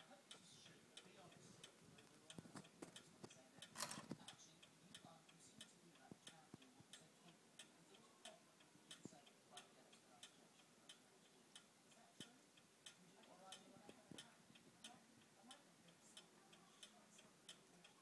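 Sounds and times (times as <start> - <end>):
clock ticking faintly: 0.0 - 18.0.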